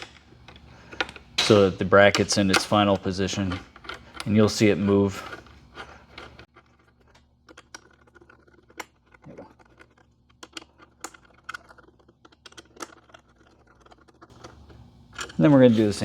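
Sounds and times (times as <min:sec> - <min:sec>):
hex key and bolts clicking: 0:00.0 - 0:16.0.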